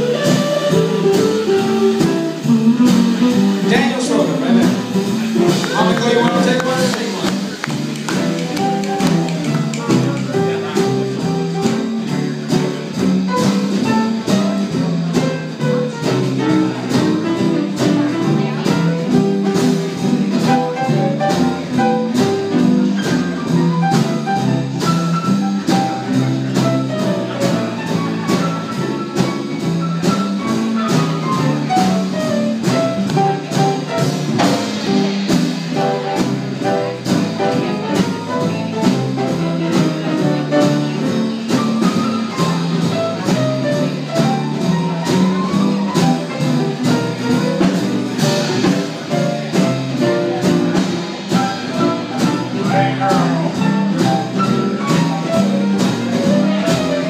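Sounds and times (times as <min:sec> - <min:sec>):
trad jazz band playing: 0:00.0 - 0:57.0.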